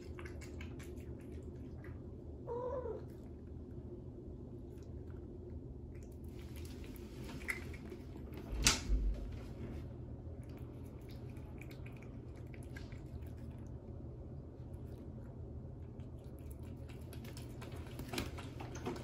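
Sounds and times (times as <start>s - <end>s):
cat licking and chewing: 0.0s - 8.5s, 10.0s - 19.0s.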